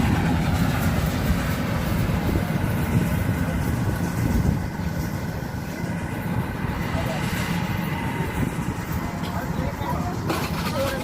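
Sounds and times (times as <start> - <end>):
combine harvester diesel engine: 0.0 - 11.0
threshing machinery running: 0.0 - 11.0.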